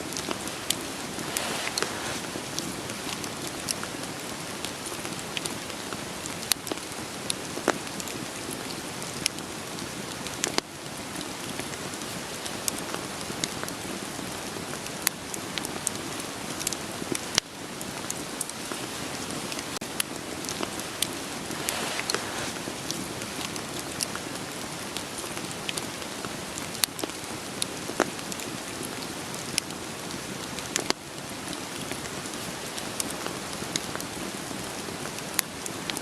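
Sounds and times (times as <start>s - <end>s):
burning firewood crackling: 0.0s - 36.0s
rain hiss: 0.0s - 36.0s.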